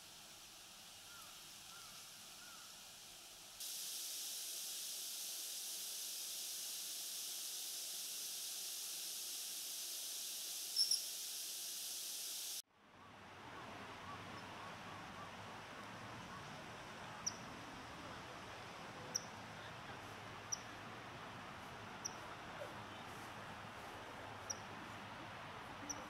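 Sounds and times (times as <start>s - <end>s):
steady hiss: 0.0s - 12.6s, 13.2s - 26.0s.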